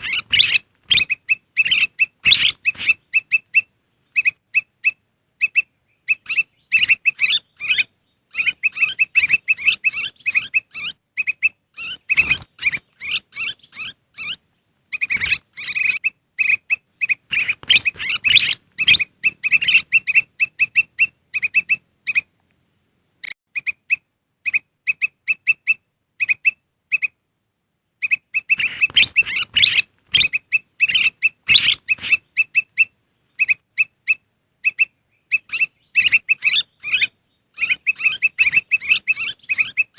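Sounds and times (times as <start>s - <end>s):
bulbul chirping and chattering: 0.0s - 22.4s, 28.0s - 39.9s.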